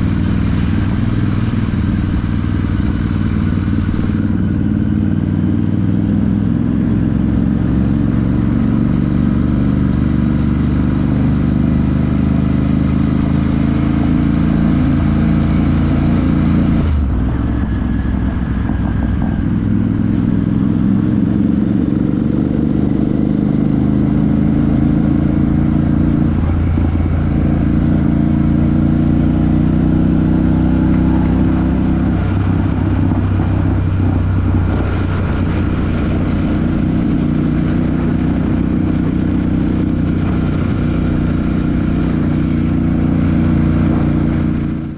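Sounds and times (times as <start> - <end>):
motorcycle engine and exhaust: 0.0 - 44.9.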